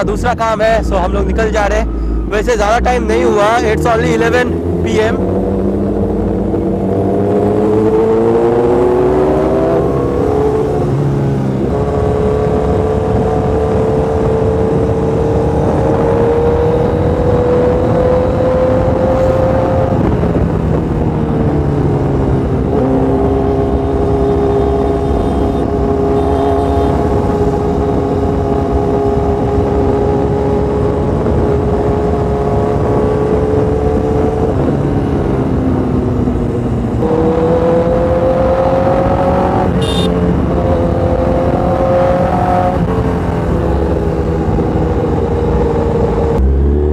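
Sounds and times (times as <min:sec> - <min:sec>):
wind rush: 0:00.0 - 0:25.0, 0:26.9 - 0:46.9
motorcycle engine cruising: 0:00.0 - 0:46.9.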